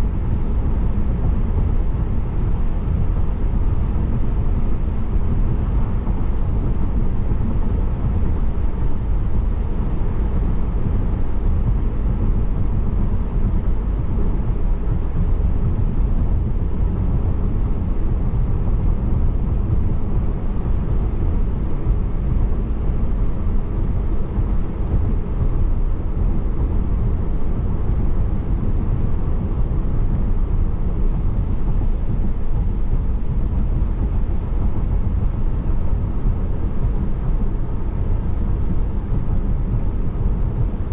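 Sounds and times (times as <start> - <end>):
car road and tyre rumble: 0.0 - 40.9.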